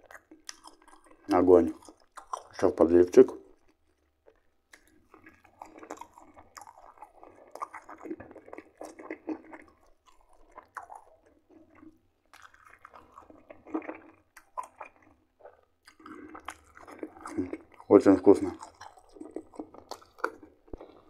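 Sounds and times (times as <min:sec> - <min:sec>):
man chewing wetly: 0:00.0 - 0:21.0.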